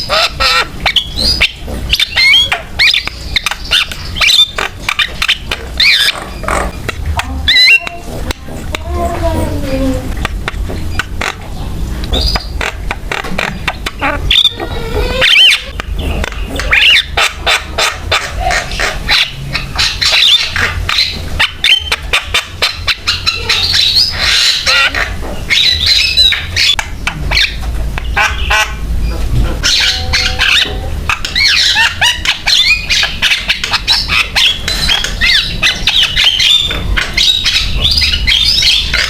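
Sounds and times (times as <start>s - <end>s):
bird singing with harsh chattering: 0.0s - 39.0s.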